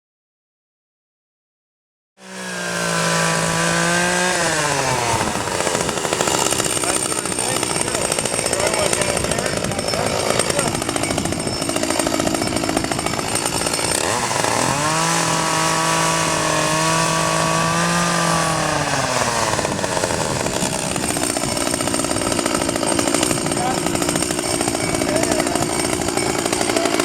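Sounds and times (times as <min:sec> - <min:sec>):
chainsaw running and revving: 0:02.2 - 0:27.0.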